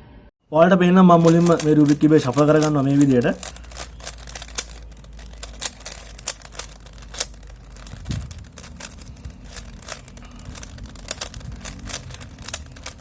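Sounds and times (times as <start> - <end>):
plastic puzzle cube clicks: 1.2 - 13.0.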